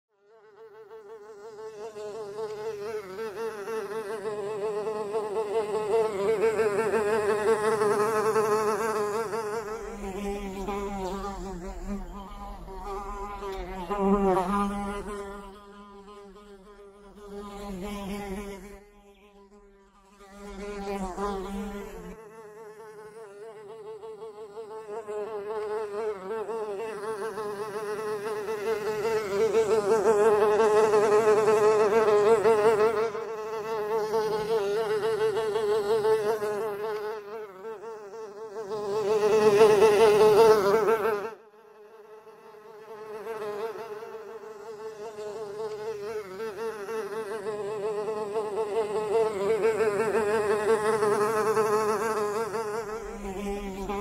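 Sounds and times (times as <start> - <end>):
fly buzzing in flight: 0.2 - 54.0.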